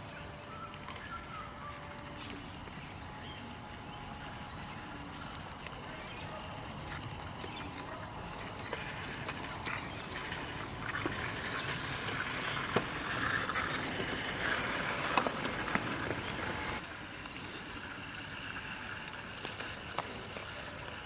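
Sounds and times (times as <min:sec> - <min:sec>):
model train motor and wheels: 0:00.0 - 0:17.3
wheels clicking on track: 0:00.0 - 0:21.0.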